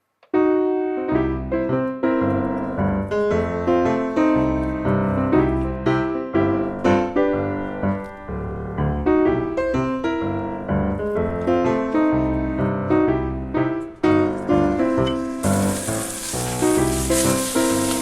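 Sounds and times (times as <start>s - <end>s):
piano music: 0.3s - 18.0s.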